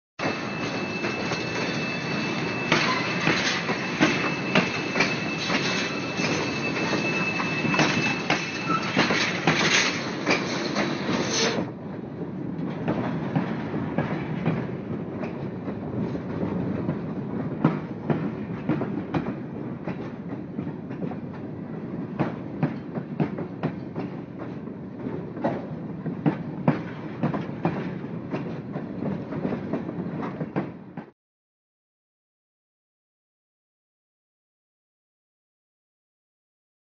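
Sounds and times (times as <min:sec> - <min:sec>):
train rumbling on rails: 0:00.2 - 0:31.1.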